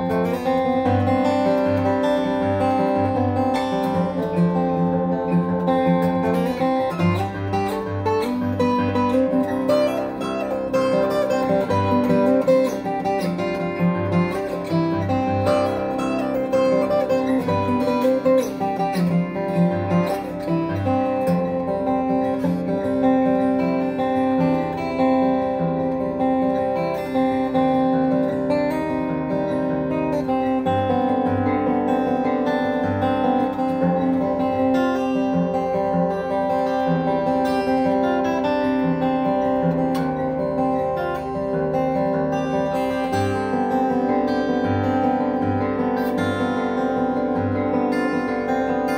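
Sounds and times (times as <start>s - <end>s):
fingerstyle acoustic guitar: 0.0s - 48.9s.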